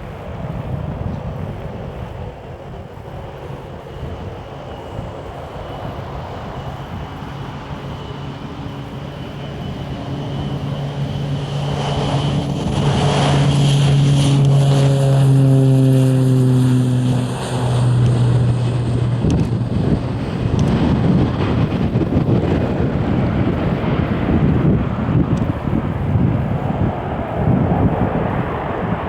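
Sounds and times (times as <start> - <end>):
turboprop plane passing: 0.0 - 29.0.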